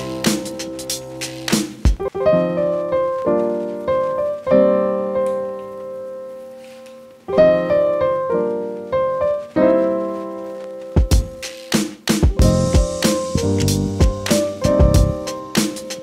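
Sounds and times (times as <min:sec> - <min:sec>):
piano chords ringing: 0:00.0 - 0:11.6, 0:12.3 - 0:16.0.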